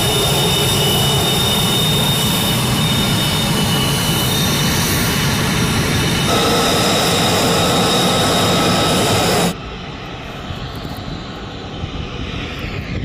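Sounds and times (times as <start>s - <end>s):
jet engine whining: 0.0s - 13.0s.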